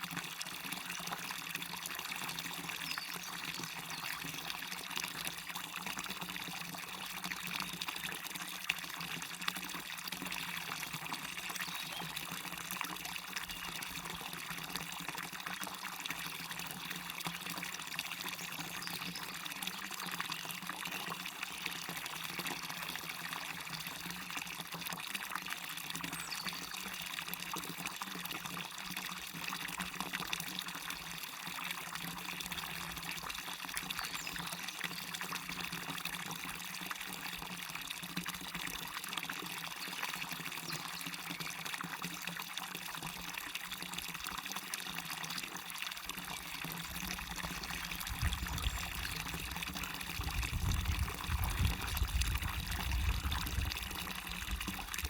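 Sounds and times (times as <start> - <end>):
small waterfall splashing: 0.0 - 55.0
stream running over rocks: 0.0 - 55.0.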